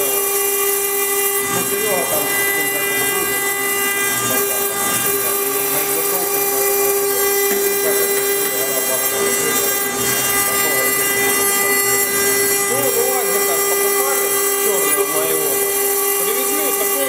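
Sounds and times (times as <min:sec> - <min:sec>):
cutter milling wet stone: 0:00.0 - 0:17.0
router spindle whine: 0:00.0 - 0:17.0.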